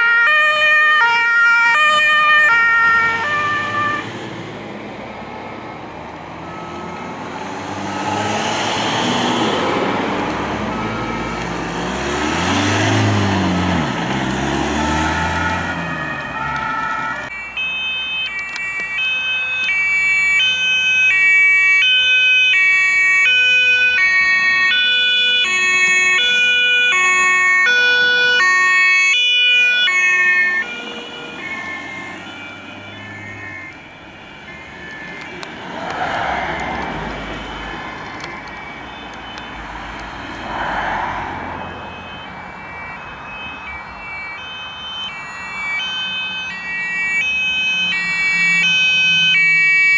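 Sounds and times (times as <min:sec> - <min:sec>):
two-tone emergency siren: 0:00.0 - 0:49.9
vehicle engines passing: 0:01.4 - 0:49.9.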